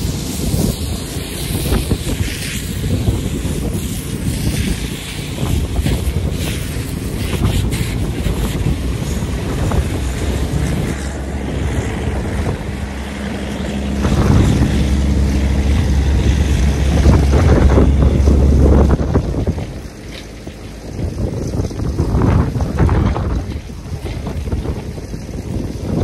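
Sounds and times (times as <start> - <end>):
tractor diesel engine running: 0.0 - 26.0
wind buffeting microphone: 0.0 - 26.0.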